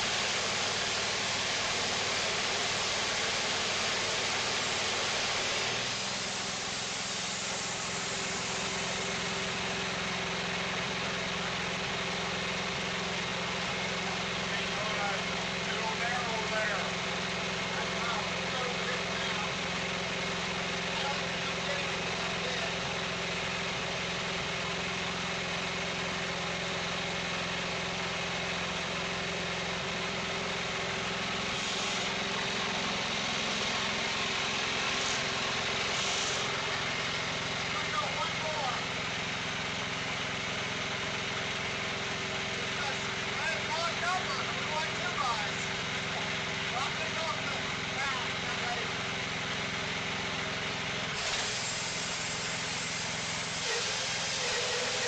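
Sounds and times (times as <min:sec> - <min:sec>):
sawmill engine droning: 0:00.0 - 0:55.0.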